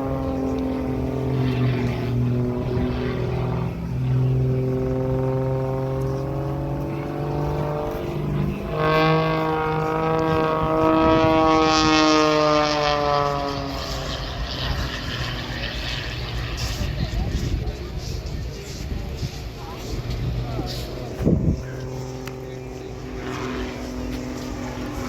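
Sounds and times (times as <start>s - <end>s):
propeller airplane engine droning: 0.0s - 25.0s.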